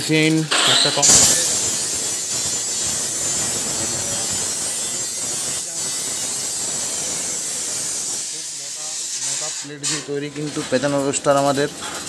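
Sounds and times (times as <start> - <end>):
arc welding crackling hiss: 0.0 - 12.0.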